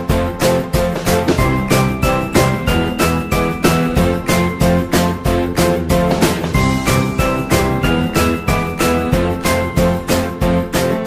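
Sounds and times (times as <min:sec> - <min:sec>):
upbeat music with bell-like melody: 0:00.0 - 0:11.0.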